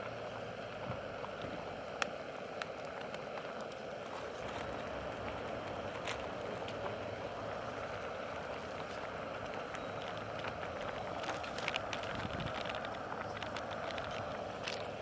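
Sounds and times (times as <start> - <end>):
campfire hissing: 0.0 - 15.0
campfire pops: 0.6 - 15.0.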